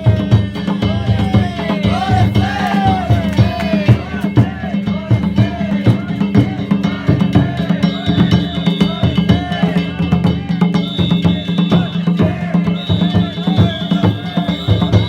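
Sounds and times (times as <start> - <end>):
drums beating fast: 0.0 - 15.0.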